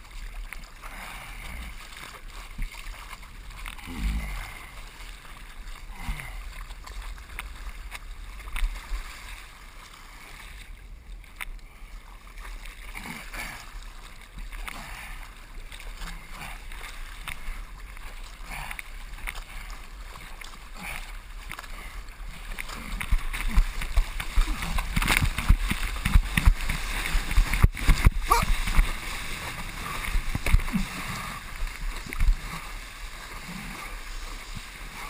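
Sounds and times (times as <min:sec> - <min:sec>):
water splashing against surfboard: 0:00.0 - 0:35.0.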